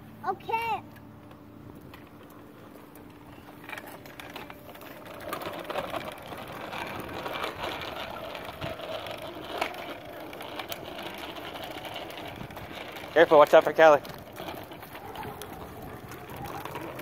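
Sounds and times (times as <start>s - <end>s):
bicycle rattling tick: 0.8s - 17.0s
tyre noise: 1.9s - 17.0s.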